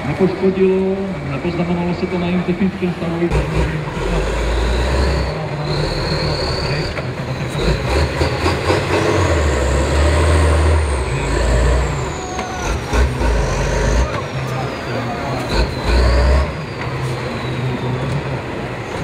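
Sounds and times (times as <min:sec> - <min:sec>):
truck diesel engine under load: 0:00.0 - 0:19.0.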